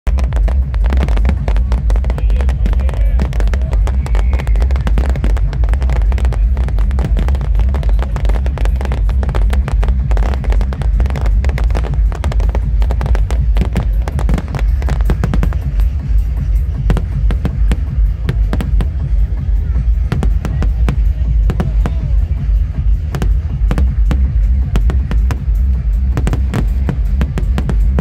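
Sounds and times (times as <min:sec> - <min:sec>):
fireworks bursting and crackling: 0:00.0 - 0:28.0
loud bass-heavy music: 0:00.0 - 0:28.0.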